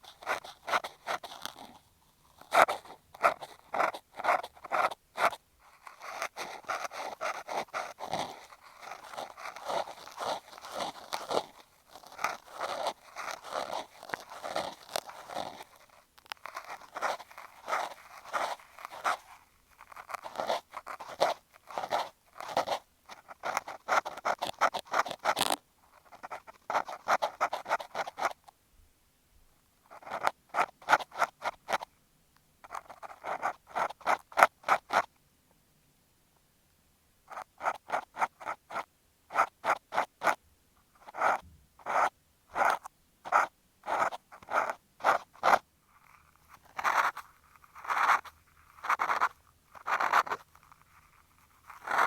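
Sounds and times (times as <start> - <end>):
cotton swab scratching microphone: 0.0 - 28.5, 29.9 - 31.9, 32.6 - 35.1, 37.3 - 40.4, 41.0 - 52.0.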